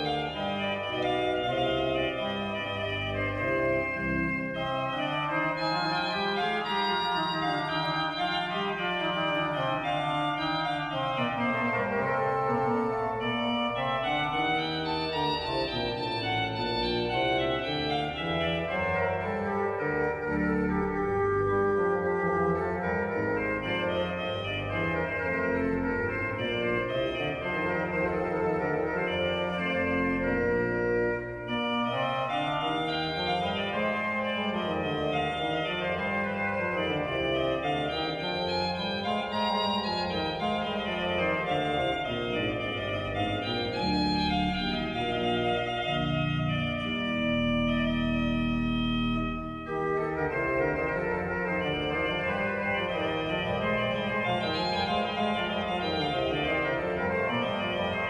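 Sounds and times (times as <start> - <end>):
pipe organ music: 0.0 - 58.0.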